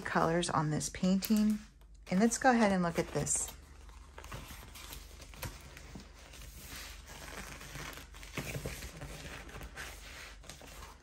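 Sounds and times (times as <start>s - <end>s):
plastic film and paper rustling: 1.1s - 11.0s.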